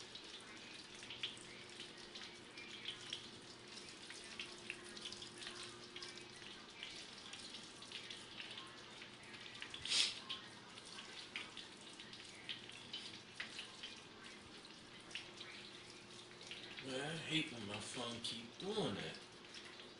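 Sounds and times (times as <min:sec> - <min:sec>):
chicken frying in hot oil: 0:00.0 - 0:19.9.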